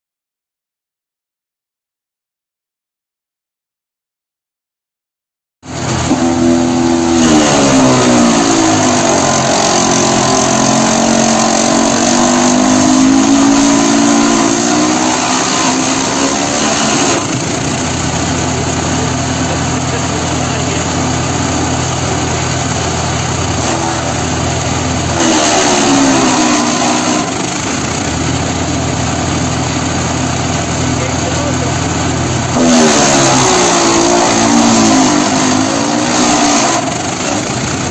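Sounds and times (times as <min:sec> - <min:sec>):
chipper-shredder engine running: 0:05.7 - 0:37.9.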